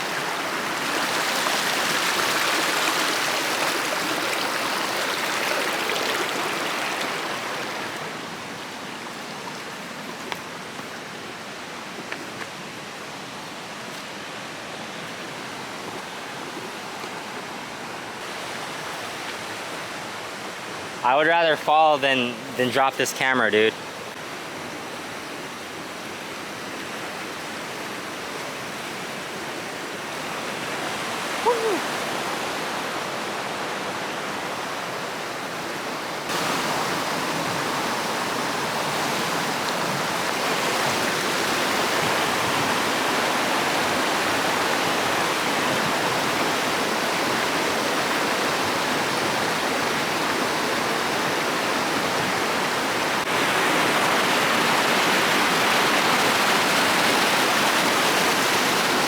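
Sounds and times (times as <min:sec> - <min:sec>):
water flowing: 0:00.0 - 0:59.0.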